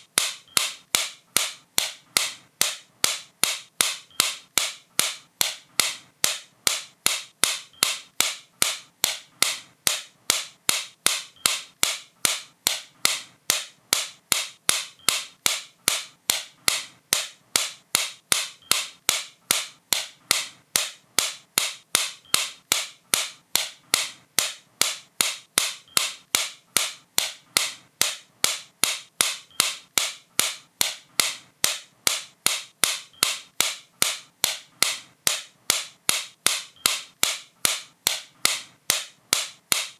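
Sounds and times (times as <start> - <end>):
sharp bright clicks: 0.1 - 39.9.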